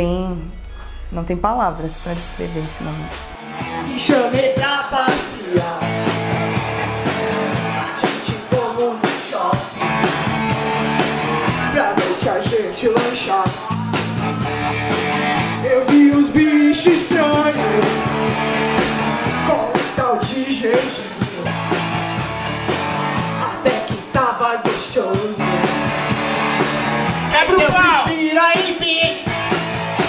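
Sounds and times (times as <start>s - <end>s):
rock and roll band music: 3.3s - 30.0s.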